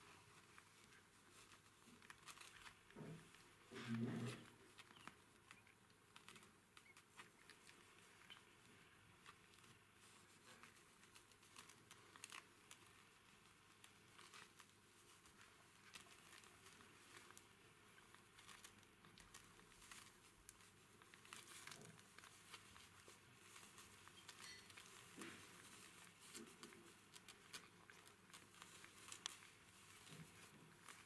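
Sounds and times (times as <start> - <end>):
faint crinkling and rustling: 0.0 - 31.0.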